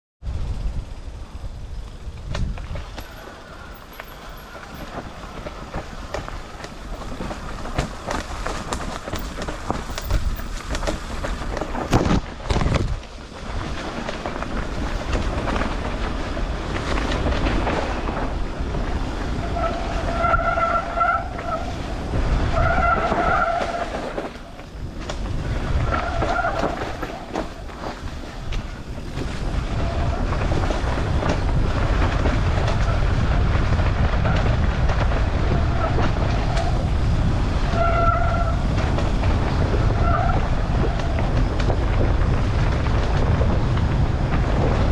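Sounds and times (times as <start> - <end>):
wind and tyre rumble: 0.2 - 44.9
bike frame rattling: 0.3 - 44.9
brakes squealing: 0.3 - 44.9.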